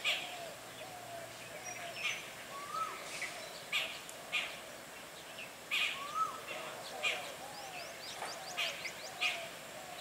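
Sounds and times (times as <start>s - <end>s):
birds chirping: 0.0s - 10.0s
faint outdoor hiss: 0.0s - 10.0s.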